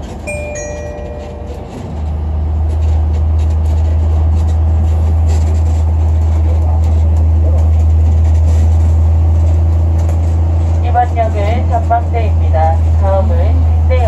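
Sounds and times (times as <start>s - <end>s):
road train engine and rolling drone: 0.0s - 14.0s.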